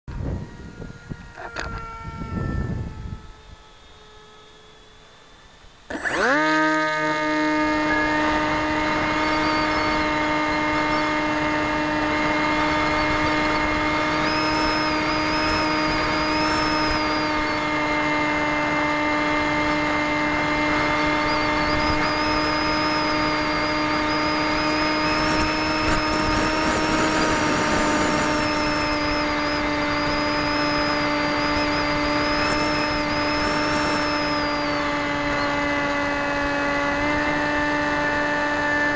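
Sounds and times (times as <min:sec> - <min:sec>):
model airplane motor droning: 0:00.1 - 0:38.9.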